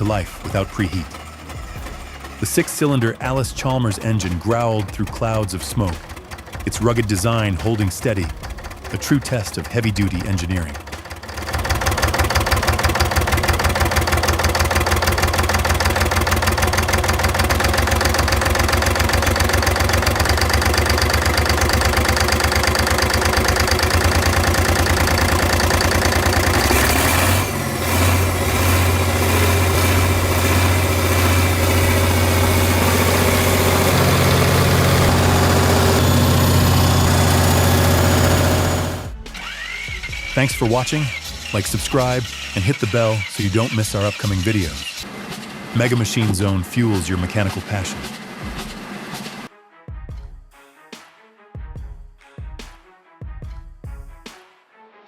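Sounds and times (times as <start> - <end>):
diesel engine running: 0.0 - 49.5.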